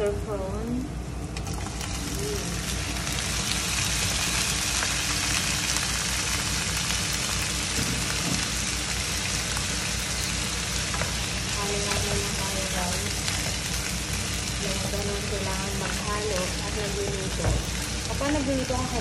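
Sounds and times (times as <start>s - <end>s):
prawns sizzling in hot oil: 1.3s - 19.0s.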